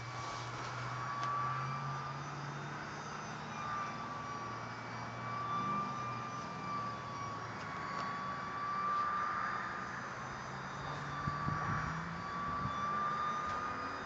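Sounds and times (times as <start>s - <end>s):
model plane motor whining: 0.0s - 14.0s.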